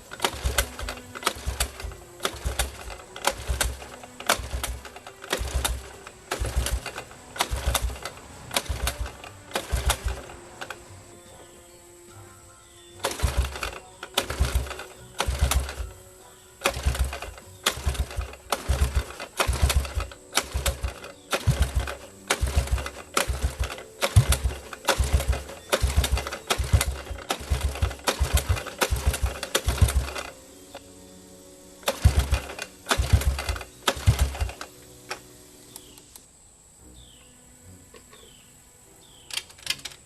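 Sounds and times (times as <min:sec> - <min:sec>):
engine cranking without starting: 0:00.0 - 0:12.0, 0:12.6 - 0:36.2, 0:39.0 - 0:40.0.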